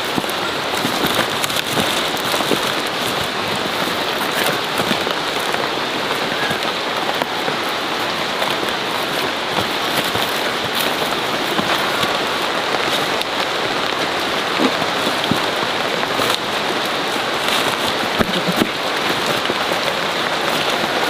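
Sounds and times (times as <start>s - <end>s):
rain falling on foliage: 0.0s - 21.0s.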